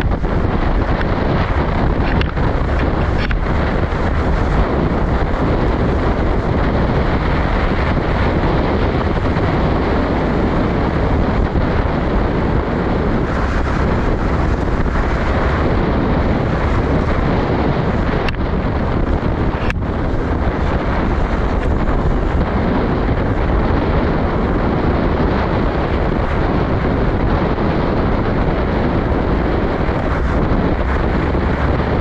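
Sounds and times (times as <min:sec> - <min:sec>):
jeep engine rumble: 0:00.0 - 0:32.0
wind buffeting microphone: 0:00.0 - 0:32.0.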